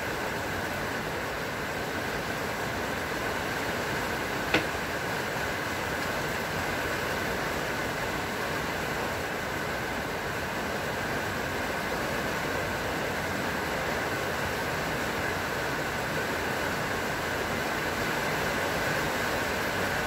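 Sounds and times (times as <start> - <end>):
rain on foliage: 0.0 - 20.0.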